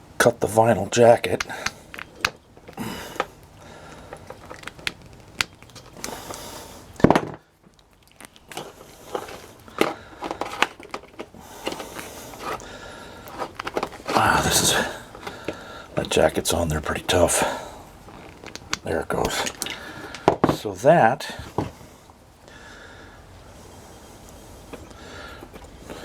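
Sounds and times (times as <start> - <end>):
cutters clicking and crinkling: 0.2 - 6.4, 7.0 - 21.8.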